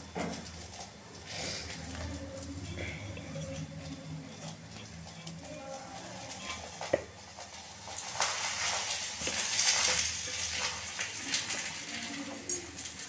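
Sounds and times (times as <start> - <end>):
flatbread sizzling in oil: 0.0 - 13.0.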